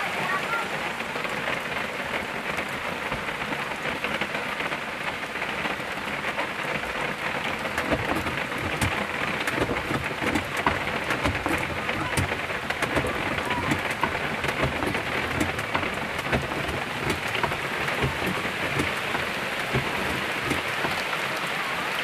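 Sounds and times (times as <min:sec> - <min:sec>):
heavy rain on vehicle: 0:00.0 - 0:22.0.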